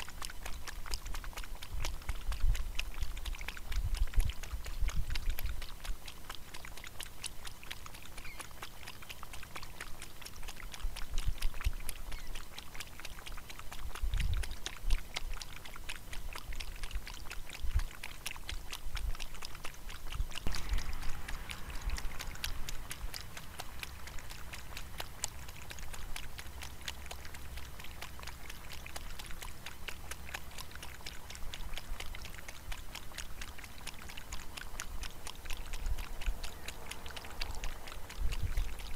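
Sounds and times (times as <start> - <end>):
kangaroo lapping water: 0.0 - 38.9.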